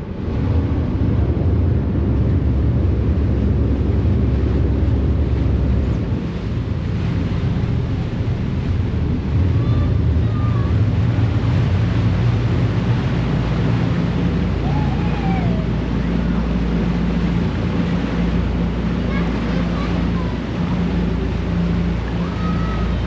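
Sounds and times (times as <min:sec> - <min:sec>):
ferry engine droning: 0:00.0 - 0:23.0
propellers churning water: 0:00.0 - 0:23.0.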